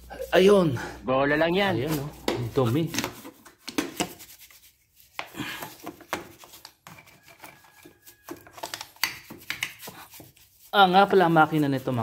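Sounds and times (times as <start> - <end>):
scrubbing strokes: 0.0 - 12.0.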